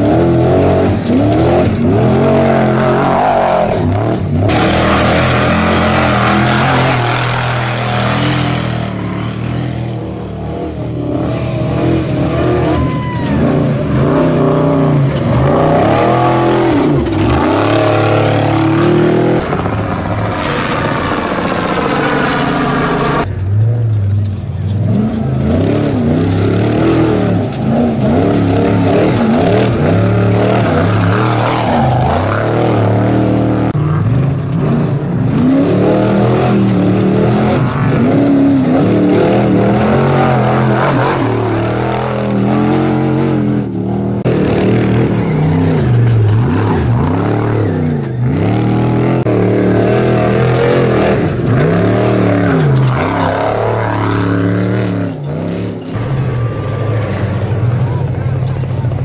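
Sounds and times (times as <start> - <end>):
race truck engines revving past: 0.0 - 59.0.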